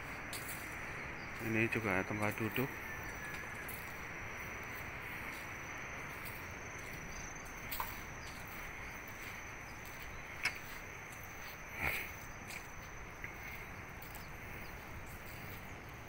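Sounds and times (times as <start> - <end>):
insects trilling: 0.0 - 16.0
outdoor background hiss: 0.0 - 16.0.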